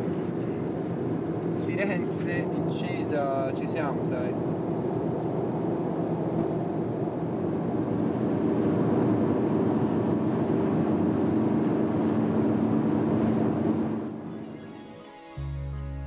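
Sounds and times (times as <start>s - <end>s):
car engine hum and road noise: 0.0s - 14.5s.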